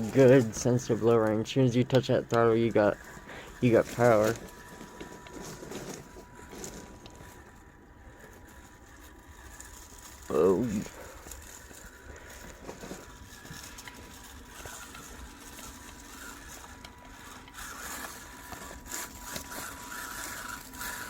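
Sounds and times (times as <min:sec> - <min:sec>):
small electric motor whirring: 0:00.0 - 0:21.0
tyres scraping on stone: 0:00.0 - 0:21.0.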